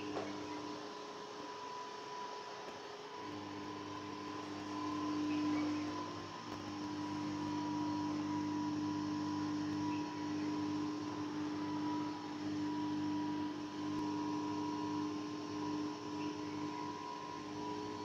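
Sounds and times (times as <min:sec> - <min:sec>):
robot vacuum motor hum: 0:00.0 - 0:18.0.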